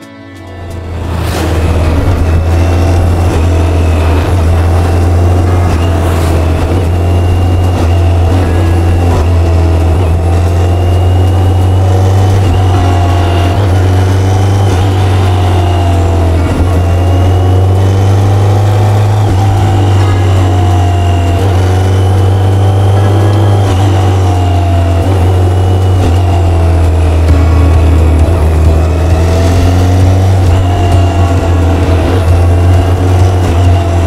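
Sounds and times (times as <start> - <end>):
motorcycle engine humming: 0.0 - 34.0.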